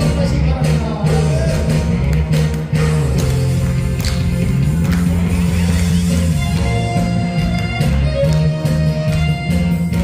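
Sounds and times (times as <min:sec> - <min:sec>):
trot music with bass line: 0:00.0 - 0:10.0.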